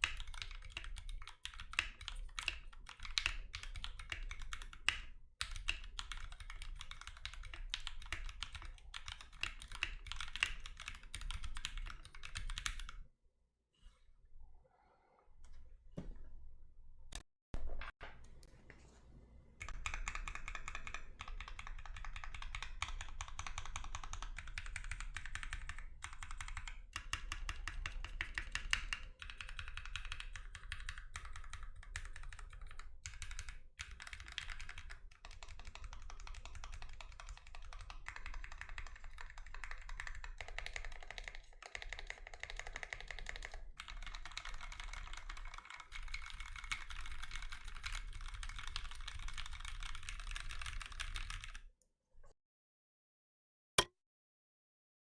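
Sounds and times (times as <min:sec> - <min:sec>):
mechanical keyboard typing: 0:00.0 - 0:13.0, 0:19.6 - 0:51.6.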